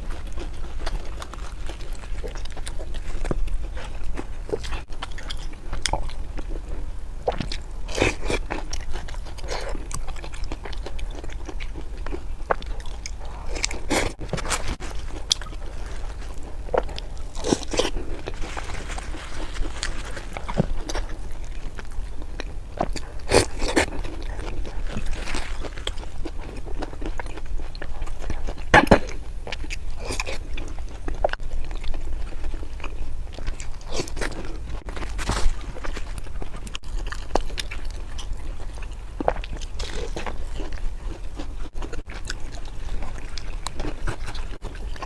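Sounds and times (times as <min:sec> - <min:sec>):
crunching and chewing food: 0:00.0 - 0:45.0.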